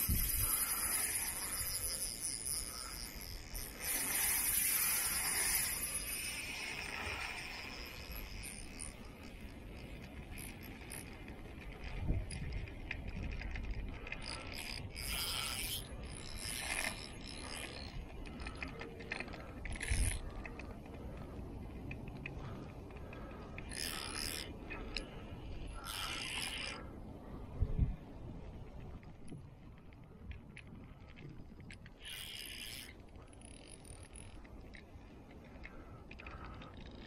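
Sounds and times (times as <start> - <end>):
fishing reel being cranked: 0.0 - 26.9, 30.5 - 37.0.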